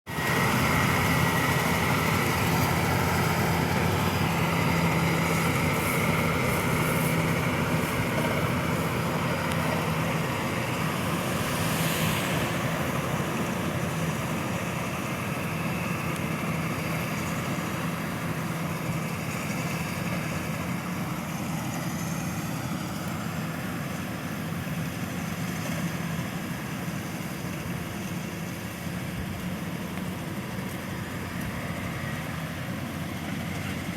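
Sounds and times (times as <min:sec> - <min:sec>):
combine harvester engine running: 0:00.1 - 0:33.9.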